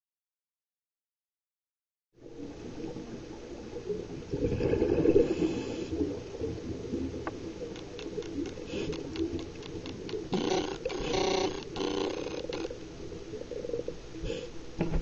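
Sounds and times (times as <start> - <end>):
underwater rumble and gurgle: 2.2 - 15.0.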